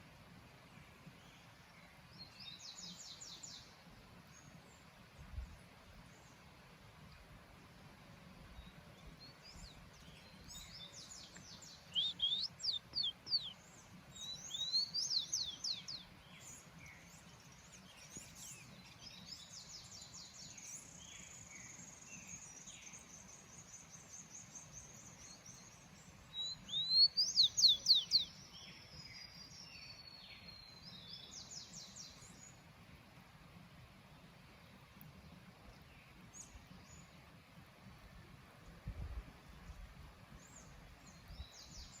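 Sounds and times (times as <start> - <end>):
songbirds singing: 0.7 - 32.8, 34.1 - 42.0.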